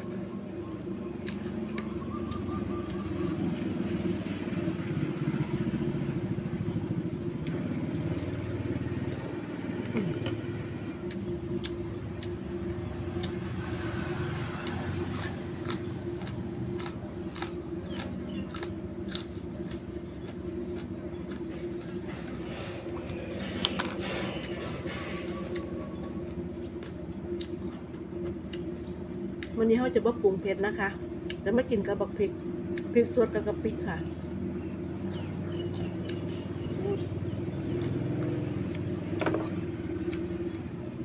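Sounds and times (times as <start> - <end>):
low motor-like hum: 0.0 - 41.0.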